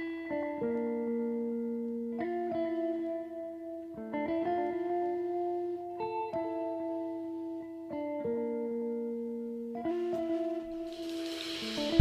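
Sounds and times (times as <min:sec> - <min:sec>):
plucked melody: 0:00.0 - 0:12.0.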